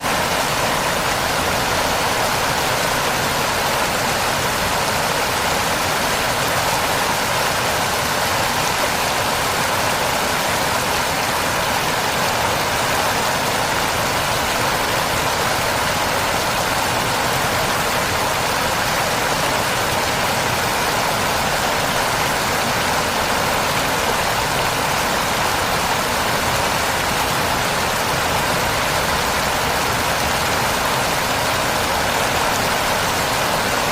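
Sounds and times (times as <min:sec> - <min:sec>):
waterfall crashing: 0:00.0 - 0:33.9.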